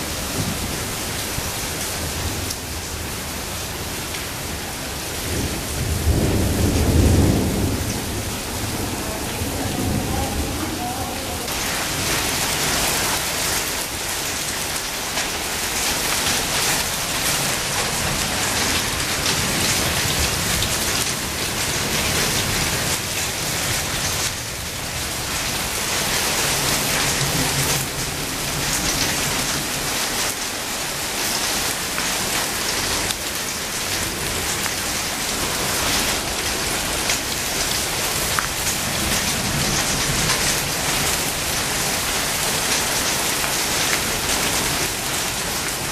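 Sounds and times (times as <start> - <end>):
heavy rain on paving and plants: 0.0 - 45.9.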